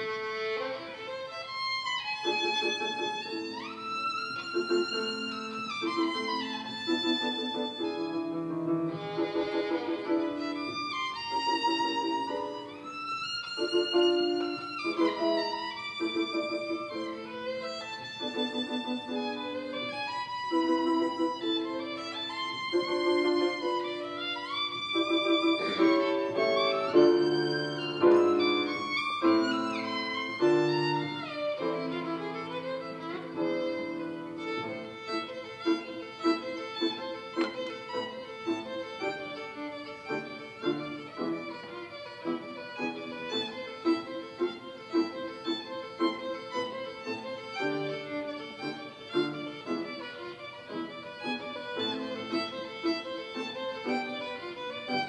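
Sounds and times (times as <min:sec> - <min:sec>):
violin melody: 0:00.0 - 0:55.0.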